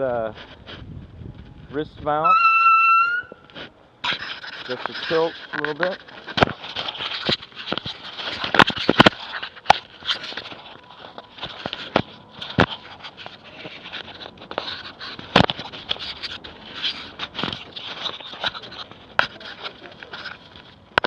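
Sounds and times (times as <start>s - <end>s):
rustling handling noise on camera: 3.3s - 21.0s.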